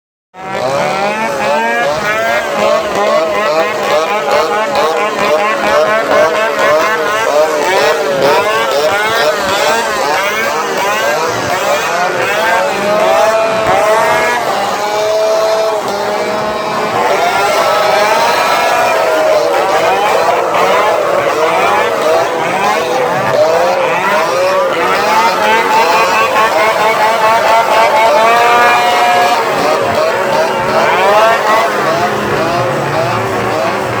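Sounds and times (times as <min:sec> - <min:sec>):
chainsaws revving: 0:00.4 - 0:34.0.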